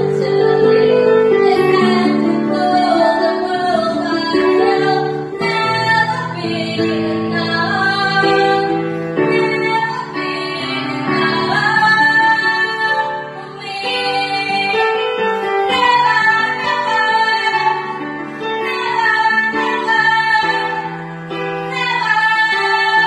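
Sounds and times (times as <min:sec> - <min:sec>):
woman singing: 0:00.0 - 0:20.9, 0:21.7 - 0:23.0
instrumental accompaniment: 0:00.0 - 0:23.0.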